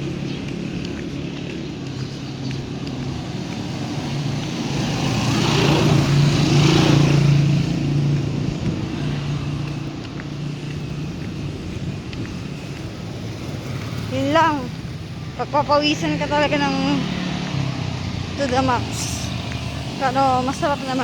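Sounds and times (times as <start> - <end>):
road traffic hum: 0.0 - 21.0
vehicle passing close by: 0.0 - 21.0.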